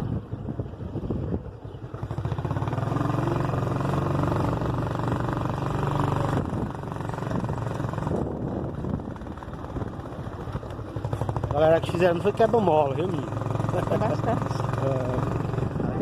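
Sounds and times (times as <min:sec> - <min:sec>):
vehicle engine running: 0:00.5 - 0:16.0.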